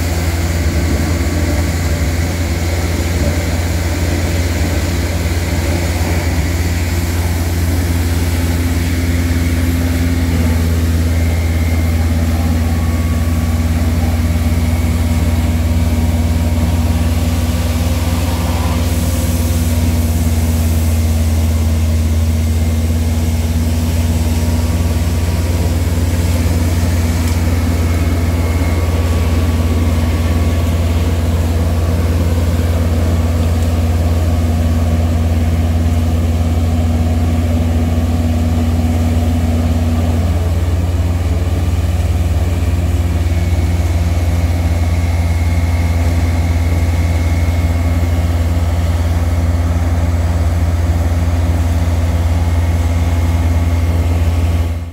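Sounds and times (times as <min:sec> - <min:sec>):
truck engine low drone: 0:00.0 - 0:54.9.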